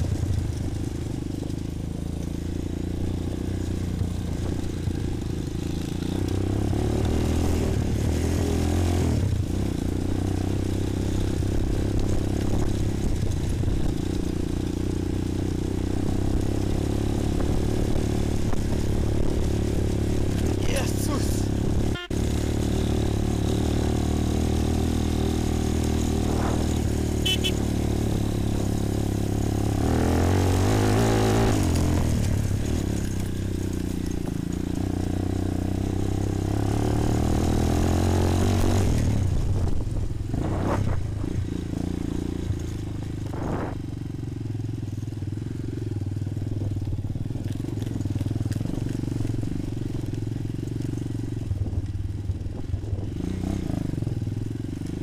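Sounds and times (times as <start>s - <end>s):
quad bike engine revving: 1.8s - 44.7s, 52.9s - 55.0s.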